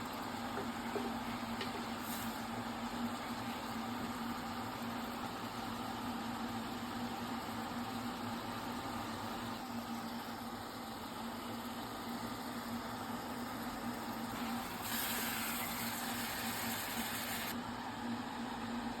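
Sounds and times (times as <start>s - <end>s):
motor hum with hiss: 0.0s - 19.0s.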